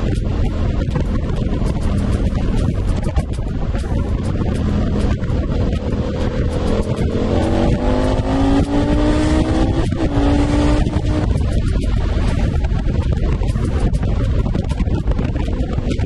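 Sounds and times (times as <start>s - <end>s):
motorcycle engine accelerating: 0.0s - 16.0s
wind rushing: 0.0s - 16.0s.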